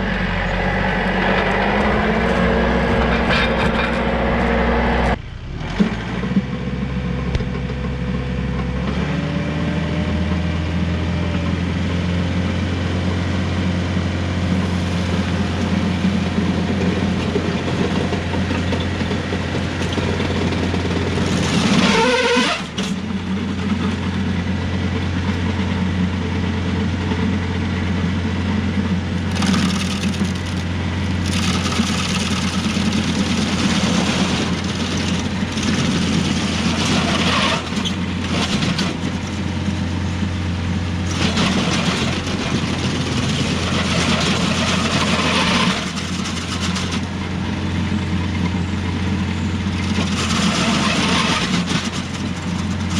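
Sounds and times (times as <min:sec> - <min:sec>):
stump grinder grinding wood: 0:00.0 - 0:10.4, 0:13.0 - 0:52.9
tractor engine running: 0:00.0 - 0:52.9.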